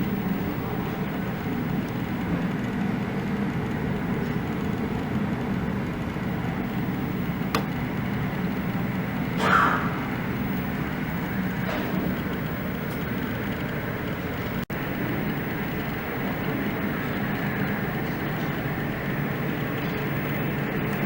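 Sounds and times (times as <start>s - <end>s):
aircraft engines rumbling: 0.0s - 21.0s.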